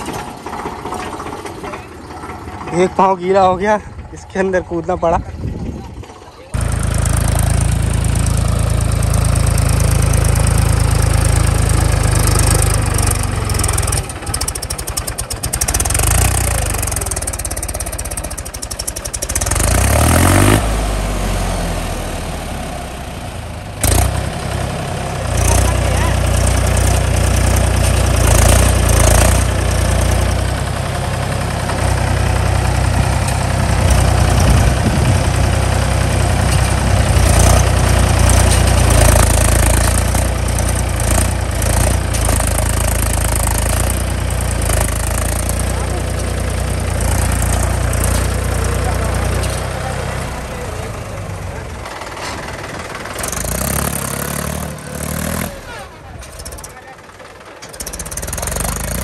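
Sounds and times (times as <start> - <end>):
tractor diesel engine revving: 0.0 - 59.0
tyres spinning in mud: 5.6 - 20.8, 23.8 - 59.0.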